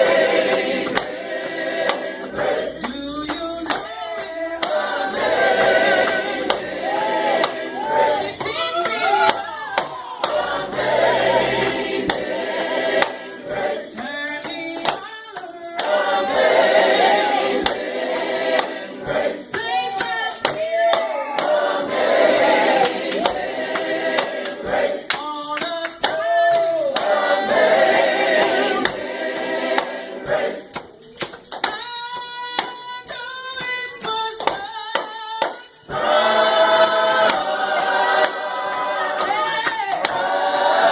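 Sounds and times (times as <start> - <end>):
gospel choir singing: 0.0 - 40.9
tambourine shaken and struck: 0.0 - 40.9.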